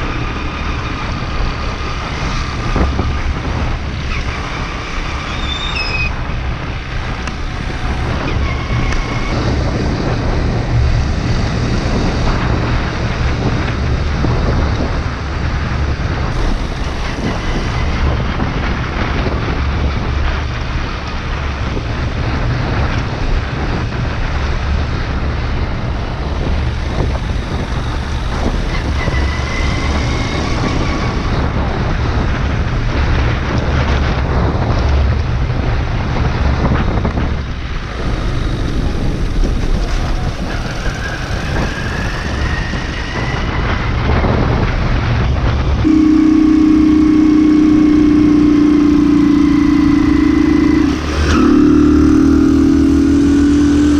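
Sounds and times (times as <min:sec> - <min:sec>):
motorbike engine drone: 0:00.0 - 0:53.9
wind rumble on microphone: 0:00.0 - 0:53.9.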